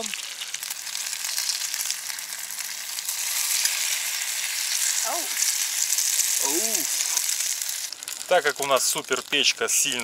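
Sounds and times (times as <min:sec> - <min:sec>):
batter sizzling in a frying pan: 0:00.0 - 0:10.0.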